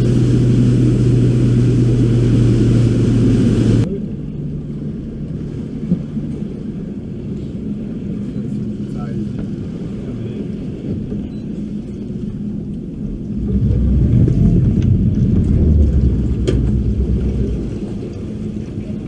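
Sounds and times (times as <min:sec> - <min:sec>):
outboard motor rumbling: 0:00.0 - 0:19.0.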